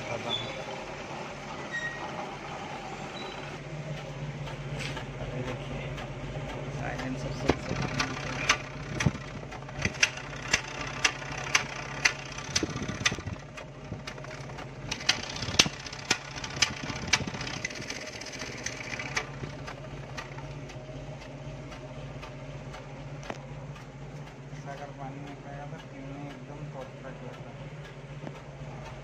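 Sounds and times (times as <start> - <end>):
petrol engine idling: 0.0 - 29.0
sharp engine ticks: 3.2 - 29.0.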